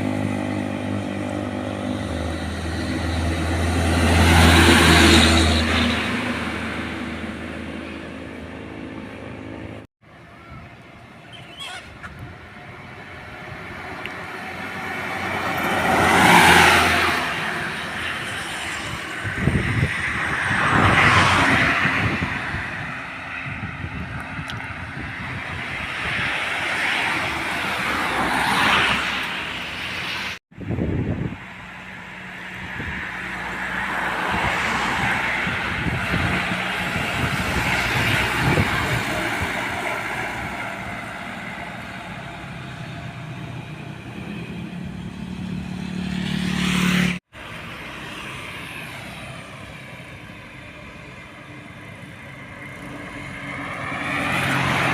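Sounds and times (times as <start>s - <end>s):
heavy trucks passing: 0.0s - 54.9s.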